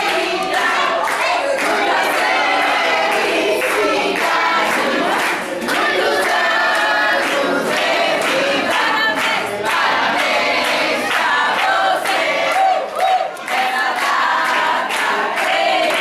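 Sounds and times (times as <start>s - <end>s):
crowd singing in chorus: 0.0s - 16.0s
hand-clapping: 0.0s - 16.0s.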